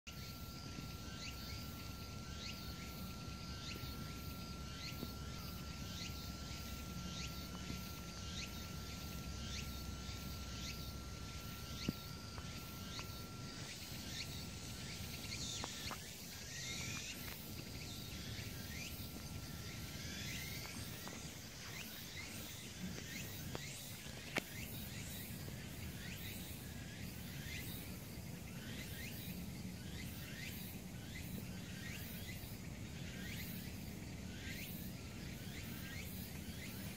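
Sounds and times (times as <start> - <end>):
bird chirps: 0.1 - 36.9
insect hiss: 0.1 - 36.9.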